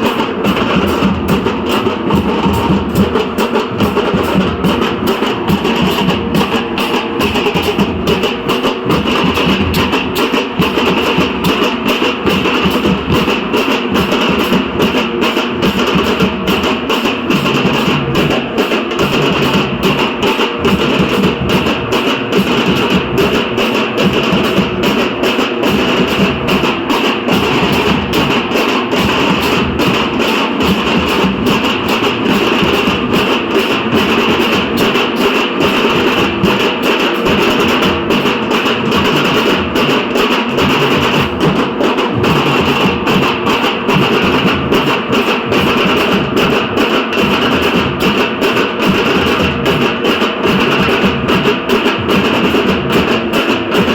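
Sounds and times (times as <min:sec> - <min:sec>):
deep barrel drums: 0:00.0 - 0:49.8, 0:50.4 - 0:53.9.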